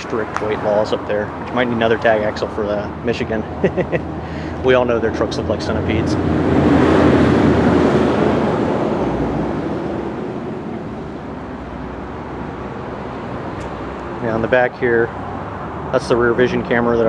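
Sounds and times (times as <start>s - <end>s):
broad rushing noise: 0.0s - 17.0s.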